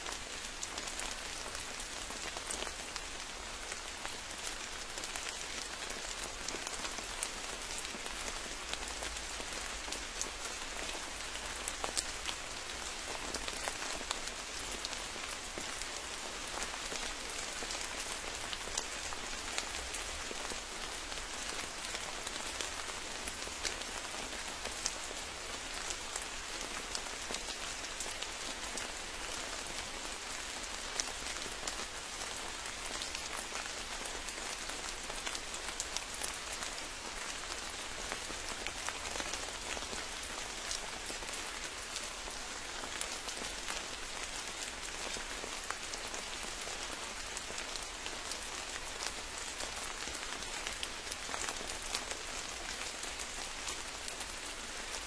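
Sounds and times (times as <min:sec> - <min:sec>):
rain falling: 0:00.0 - 0:55.0
raindrops ticking on leaves: 0:00.0 - 0:55.0.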